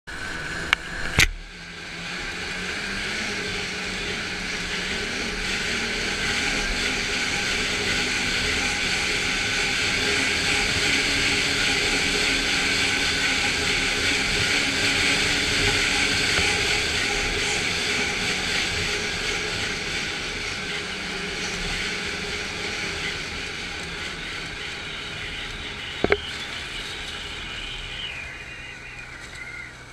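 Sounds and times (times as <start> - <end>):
snowmobile engine running: 0.1 - 29.9.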